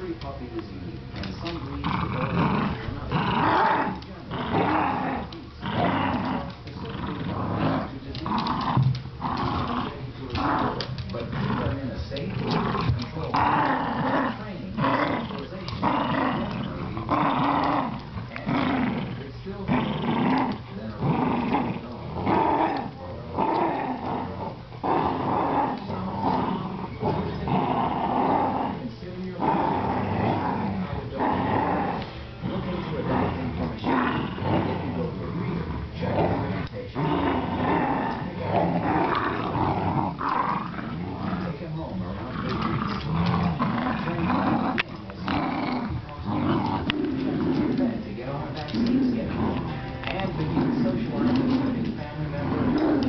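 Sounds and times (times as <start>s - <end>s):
dogs growling in play: 0.0s - 53.0s.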